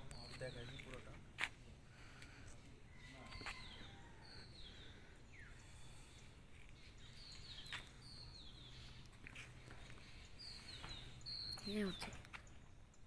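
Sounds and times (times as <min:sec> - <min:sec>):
outdoor background noise: 0:00.0 - 0:13.0
small bird calling: 0:01.9 - 0:13.0.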